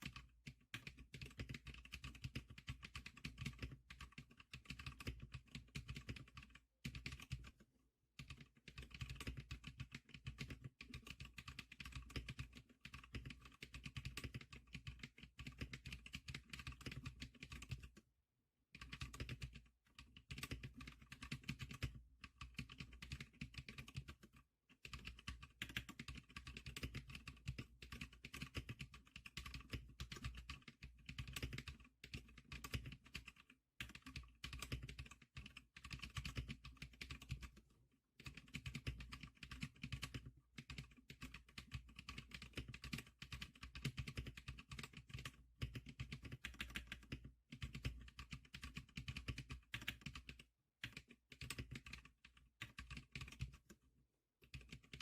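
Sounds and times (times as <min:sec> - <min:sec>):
keyboard typing: 0:00.0 - 0:18.0, 0:18.7 - 0:55.0.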